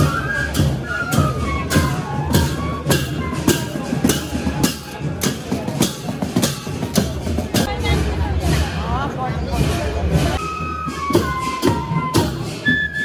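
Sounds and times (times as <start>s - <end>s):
bamboo flutes melody: 0.0s - 7.7s, 10.1s - 13.0s
cymbals: 0.0s - 13.0s
drums beating: 0.0s - 13.0s.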